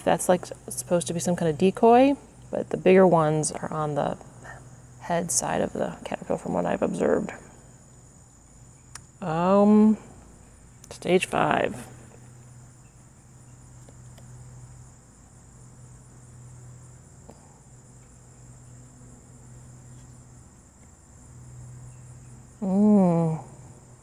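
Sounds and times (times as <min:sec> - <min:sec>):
crickets chirping: 0:00.0 - 0:24.0
low steady hum: 0:00.0 - 0:24.0.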